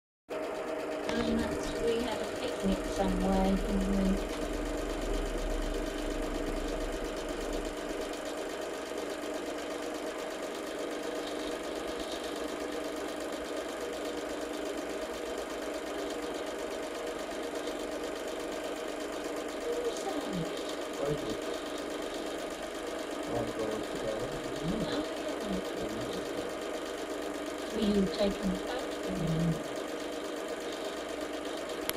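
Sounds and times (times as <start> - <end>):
film projector whirring: 0.3 - 31.9.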